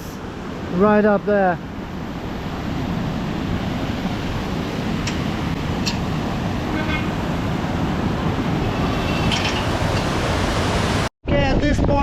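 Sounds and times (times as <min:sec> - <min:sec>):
wind rushing: 0:01.6 - 0:12.0.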